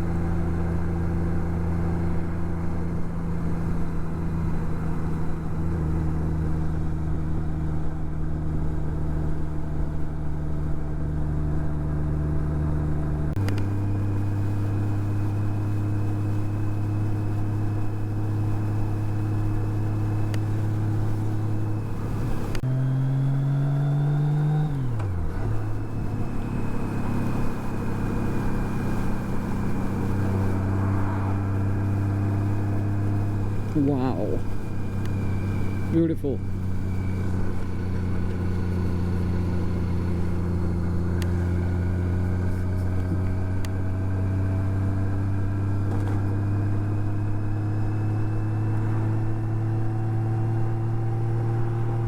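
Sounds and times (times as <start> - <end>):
motorcycle engine running: 0.0 - 24.0, 24.6 - 52.0.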